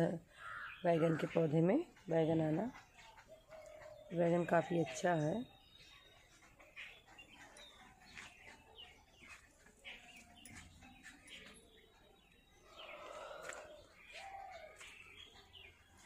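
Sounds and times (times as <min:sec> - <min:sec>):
faint small birds chirping: 0:00.0 - 0:16.0.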